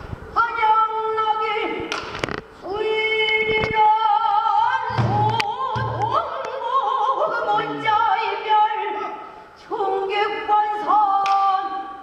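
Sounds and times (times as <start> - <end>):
woman singing with vibrato: 0.2 - 1.9, 2.6 - 12.0.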